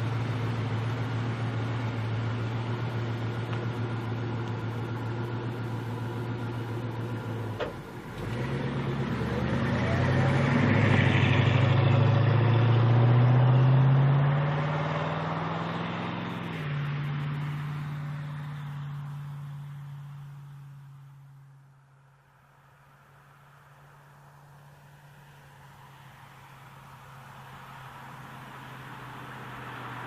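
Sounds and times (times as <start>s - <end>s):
car engine idling and accelerating: 0.0s - 30.0s.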